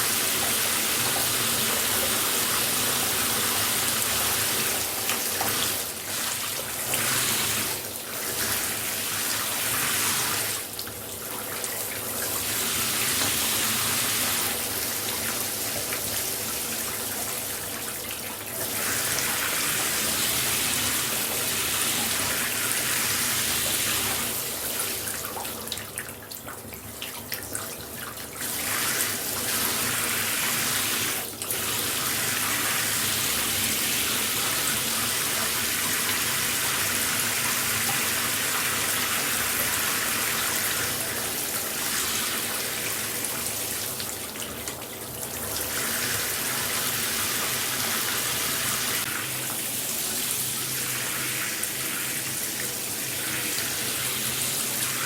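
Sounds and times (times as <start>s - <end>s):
shower running: 0.0s - 55.0s.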